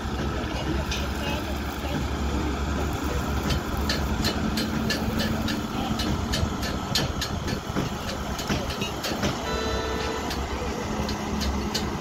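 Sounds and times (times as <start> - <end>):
diesel engines droning: 0.0 - 12.0.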